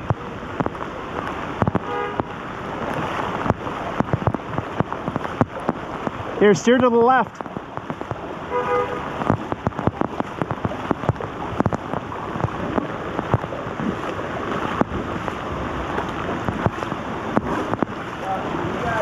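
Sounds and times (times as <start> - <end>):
heavy rain pouring: 0.0 - 19.0
raindrop ticks: 0.0 - 19.0
water splashing around legs: 0.0 - 19.0.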